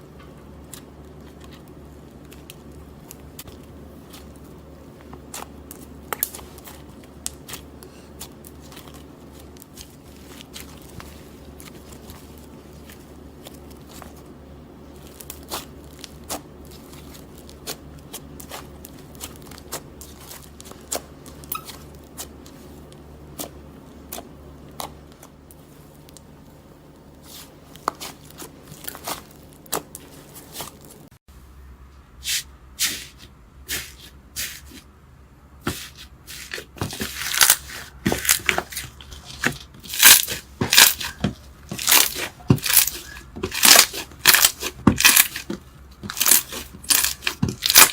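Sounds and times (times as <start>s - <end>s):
slime crunchy crackling: 0.7s - 14.3s, 14.9s - 25.7s, 27.1s - 31.1s, 35.7s - 47.9s.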